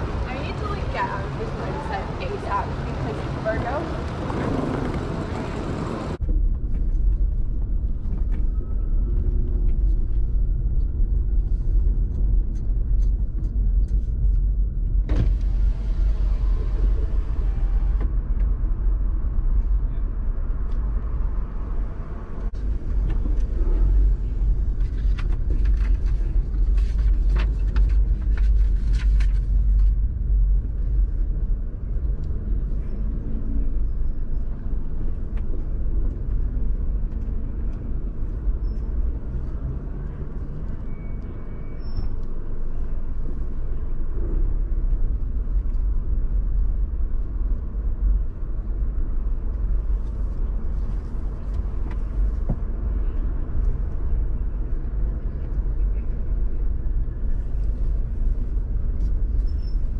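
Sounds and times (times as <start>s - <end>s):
car interior rumble: 0.0s - 59.9s.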